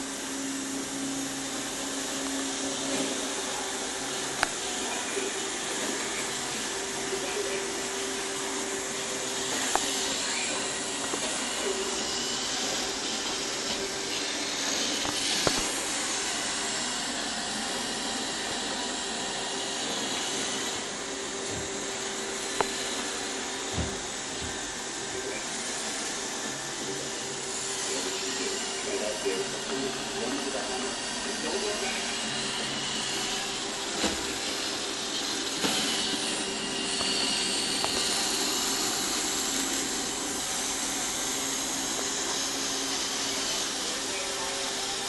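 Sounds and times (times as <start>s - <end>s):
robot vacuum running: 0.0s - 45.0s.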